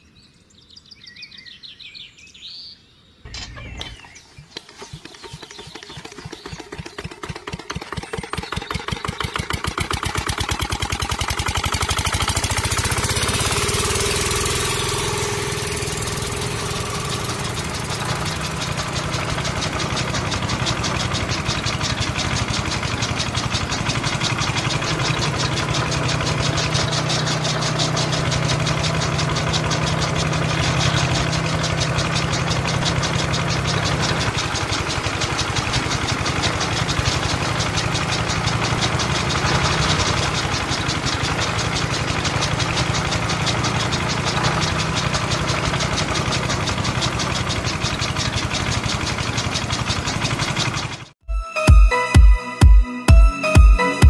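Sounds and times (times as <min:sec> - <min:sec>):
model diesel engine knocking: 0:04.6 - 0:51.2.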